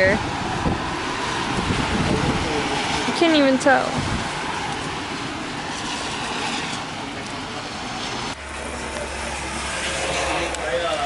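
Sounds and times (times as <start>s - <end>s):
car traffic on wet street: 0.0s - 11.0s.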